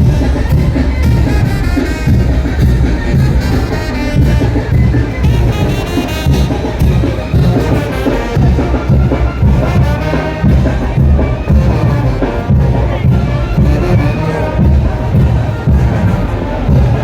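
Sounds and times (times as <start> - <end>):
brass band playing: 0.0 - 17.0
pulsing bass and drum beat: 0.0 - 17.0
trumpets and trombones: 0.0 - 17.0.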